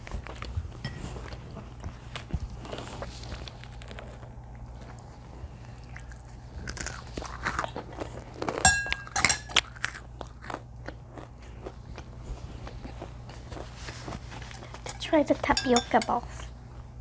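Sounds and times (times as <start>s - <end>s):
chewing and crunching food: 0.0s - 17.0s.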